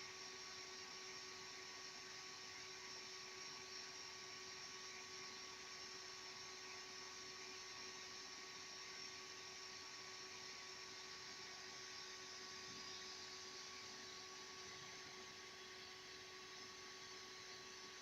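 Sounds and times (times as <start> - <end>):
faint steady hum with hiss: 0.0 - 18.0.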